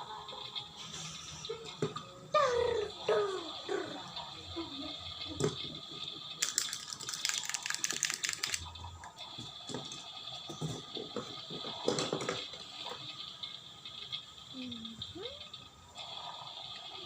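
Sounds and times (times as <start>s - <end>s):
toy rattling and whirring: 0.0s - 17.0s.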